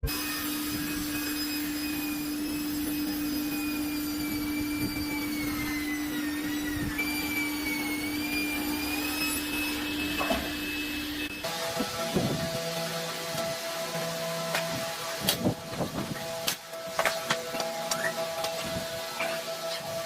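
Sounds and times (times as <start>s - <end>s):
electric motor hum: 0.0s - 20.0s
high motor whine: 0.0s - 20.0s.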